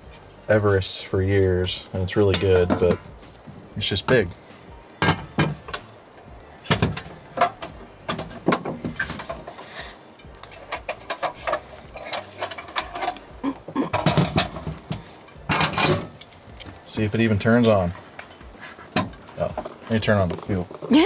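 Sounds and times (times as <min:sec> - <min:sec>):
cooking gear clattering: 0:01.9 - 0:21.0.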